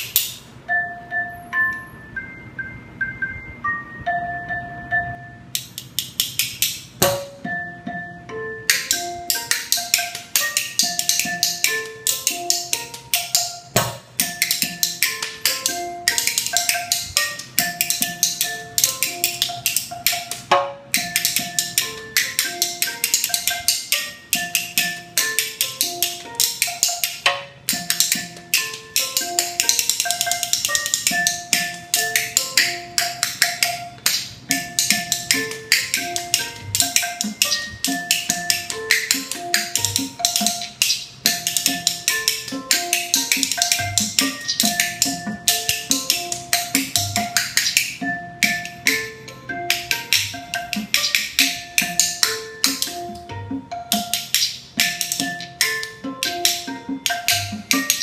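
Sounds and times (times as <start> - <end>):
spoons clacking rhythmically: 0.0 - 0.6, 5.4 - 58.0
marimba-like notes loop: 0.0 - 58.0.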